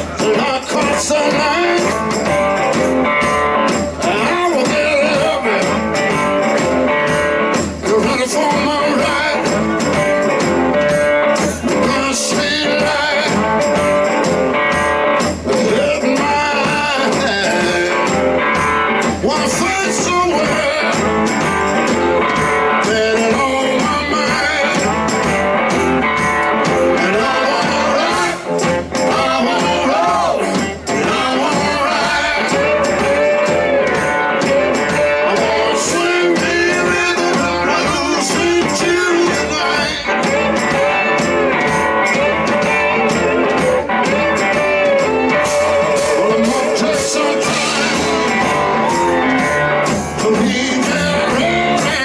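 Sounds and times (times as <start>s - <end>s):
blues-rock band playing: 0.0s - 52.0s
guitar: 0.0s - 52.0s
steady drum beat: 0.0s - 52.0s.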